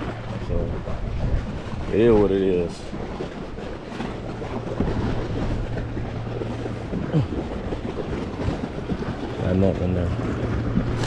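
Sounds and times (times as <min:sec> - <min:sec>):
boat engine hum: 0:00.0 - 0:11.0
wind buffeting microphone: 0:00.0 - 0:11.0.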